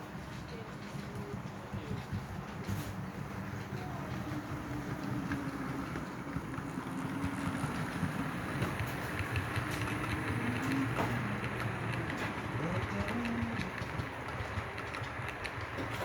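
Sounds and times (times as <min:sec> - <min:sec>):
wheels ticking on track: 0:00.0 - 0:16.0
model train motor hum: 0:01.3 - 0:16.0.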